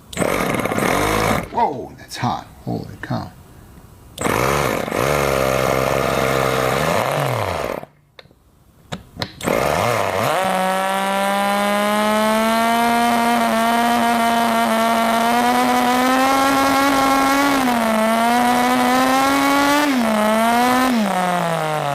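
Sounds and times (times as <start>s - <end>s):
model engine buzzing: 0.1s - 1.6s, 4.2s - 7.9s, 9.4s - 21.9s.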